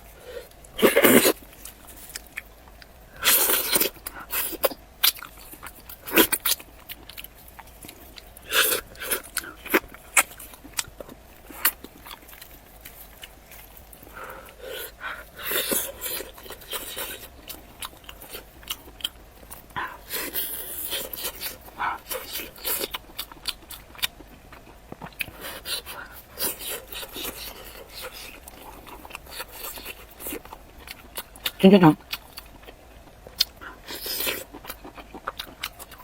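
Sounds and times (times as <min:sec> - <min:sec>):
wet chewing and lip-smacking: 0:00.4 - 0:36.0.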